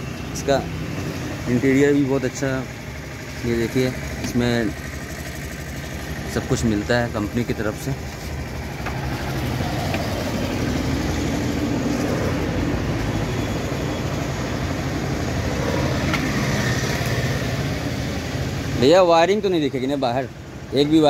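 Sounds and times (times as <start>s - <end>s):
car engine running: 0.0s - 21.0s
road traffic: 0.0s - 21.0s.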